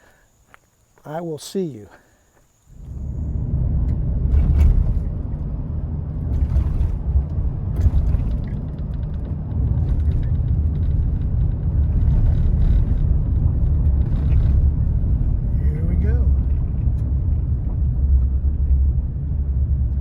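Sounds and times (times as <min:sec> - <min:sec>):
steady low rumble: 0:02.6 - 0:20.0.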